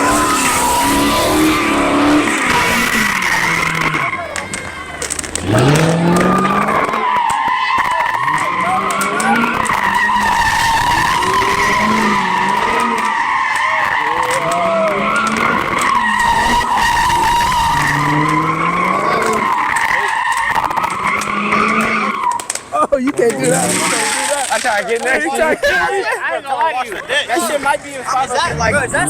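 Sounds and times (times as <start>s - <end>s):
car engine revving: 0.0s - 22.7s, 23.4s - 24.2s, 28.3s - 29.0s
tyres squealing: 0.0s - 26.1s.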